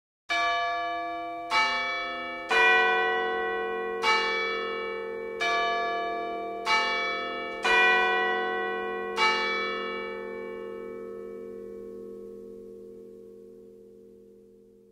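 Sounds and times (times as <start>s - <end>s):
clock chime bells: 0.3s - 14.4s.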